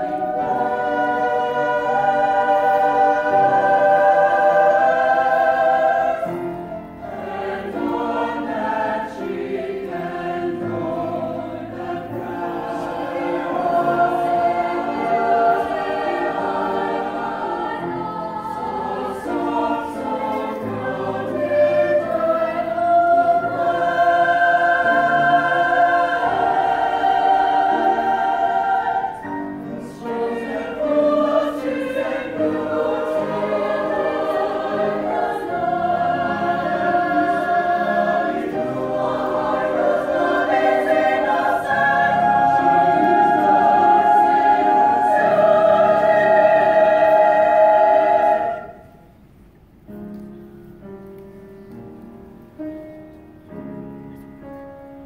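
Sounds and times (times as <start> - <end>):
choir singing held chords: 0.0 - 49.4
piano accompaniment: 0.0 - 55.0.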